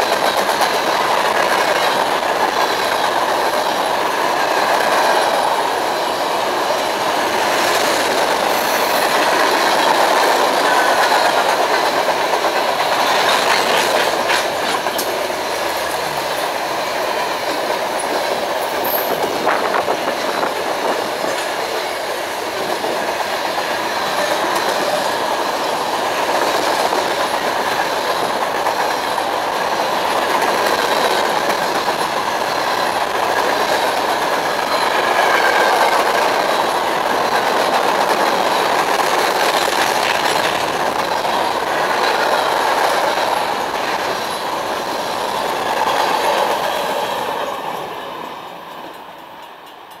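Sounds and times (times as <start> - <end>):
steel wheels clattering on rails: 0.0 - 50.0.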